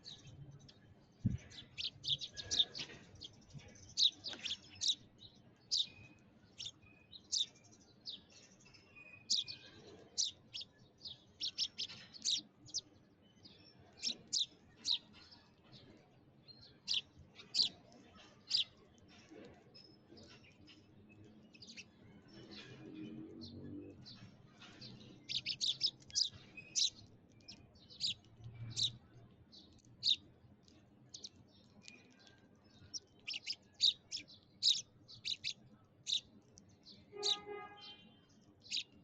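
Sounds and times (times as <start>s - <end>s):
sparrows chirping: 0.0s - 39.0s.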